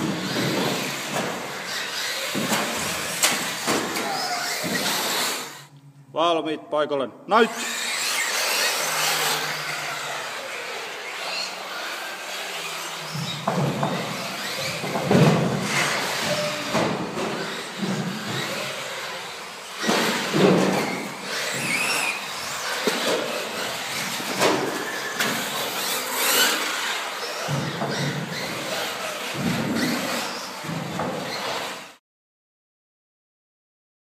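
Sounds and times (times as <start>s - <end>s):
toy car motors whining: 0.0s - 5.7s, 7.4s - 32.0s.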